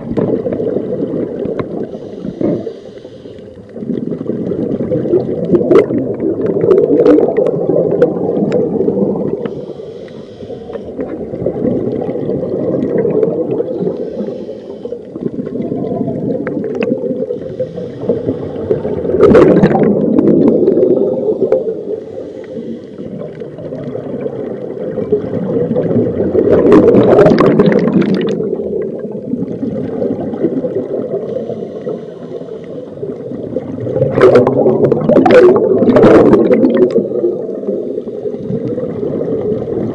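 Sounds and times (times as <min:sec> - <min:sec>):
exhaled bubbles bursting: 0:00.0 - 0:02.7, 0:03.8 - 0:09.6, 0:11.0 - 0:14.4, 0:15.1 - 0:22.0, 0:23.0 - 0:32.0, 0:32.9 - 0:39.9
muffled regulator breathing underwater: 0:00.6 - 0:23.8, 0:29.4 - 0:39.3.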